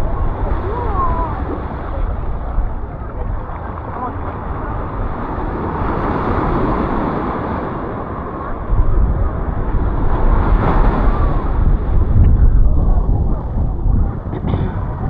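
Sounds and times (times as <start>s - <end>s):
sea water washing: 0.0s - 15.0s
wind buffeting microphone: 0.0s - 15.0s.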